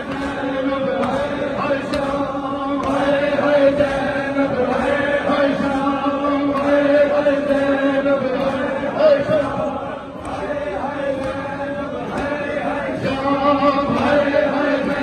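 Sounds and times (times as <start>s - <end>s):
crowd of men chanting: 0.0s - 15.0s
faint beat: 0.0s - 15.0s.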